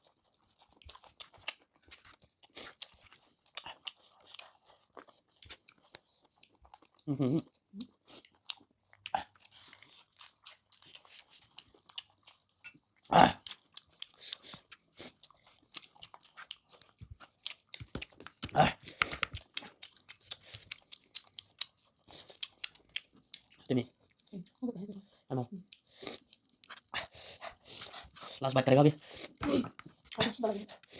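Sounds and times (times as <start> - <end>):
wet mouth chewing smacks: 0.1 - 12.6, 13.4 - 28.4, 29.0 - 30.9.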